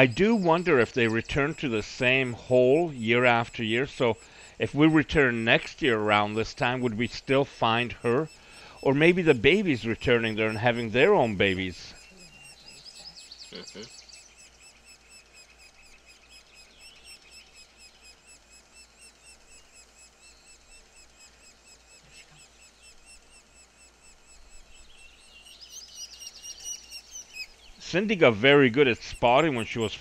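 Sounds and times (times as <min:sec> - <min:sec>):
nestlings begging calls: 0:00.0 - 0:30.0.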